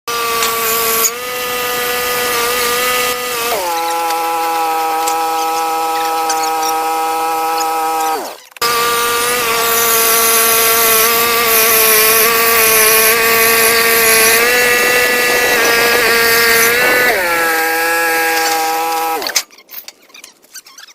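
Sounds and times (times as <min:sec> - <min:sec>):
band sawmill whining: 0:00.1 - 0:19.5.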